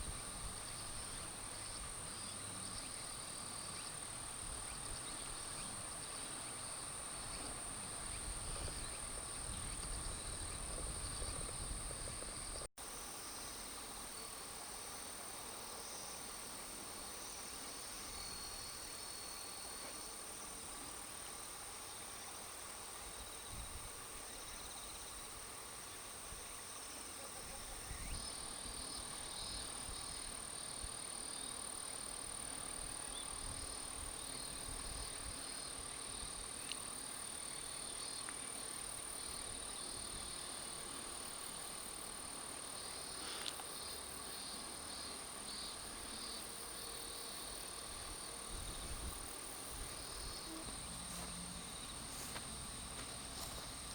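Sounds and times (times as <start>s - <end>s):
insects trilling: 0.0s - 12.7s, 17.0s - 53.9s.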